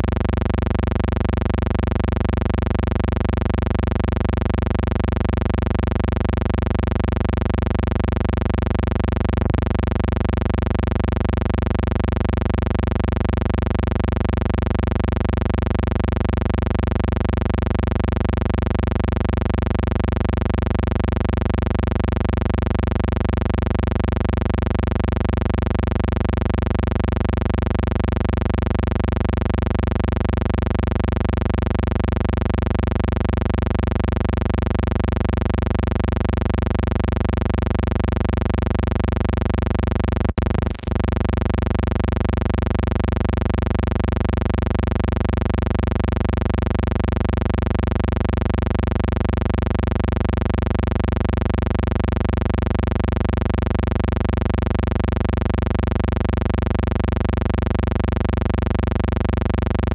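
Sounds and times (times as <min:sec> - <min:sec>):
low hum with faint buzz: 0:00.0 - 0:59.9.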